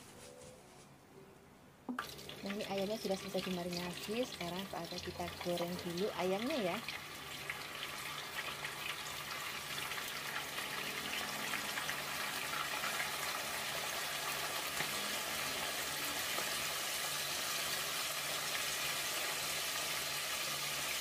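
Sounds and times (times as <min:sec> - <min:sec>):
chicken deep-frying in hot oil: 0:02.0 - 0:21.0.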